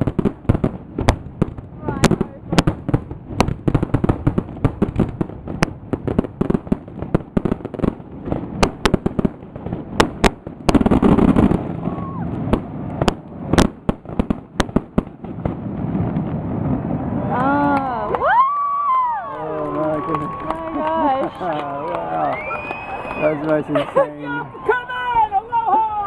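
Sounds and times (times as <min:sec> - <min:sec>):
fireworks popping and banging: 0:00.0 - 0:26.0.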